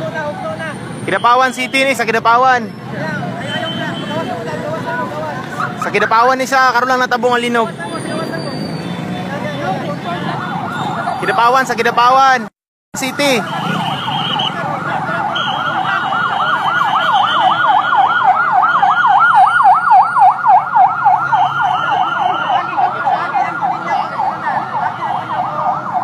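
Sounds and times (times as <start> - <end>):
siren yelping: 3.4 - 12.4, 13.0 - 26.0.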